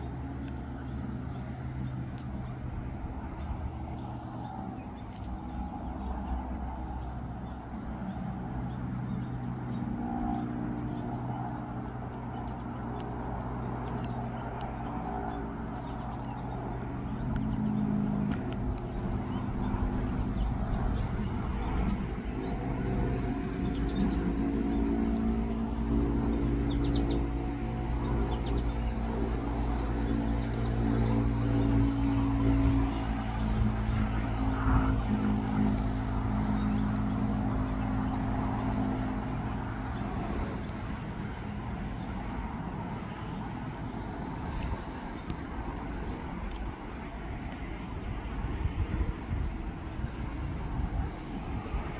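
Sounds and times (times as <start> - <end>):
low engine hum: 0.0 - 51.9.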